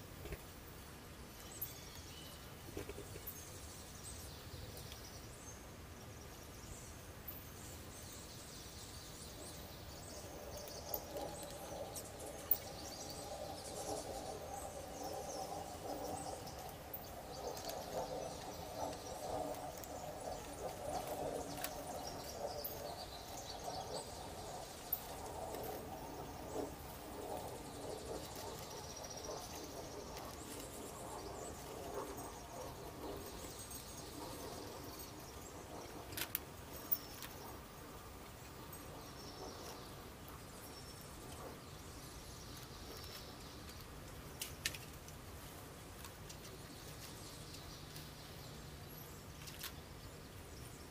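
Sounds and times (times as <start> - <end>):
small birds chirping faintly: 0.0 - 50.9.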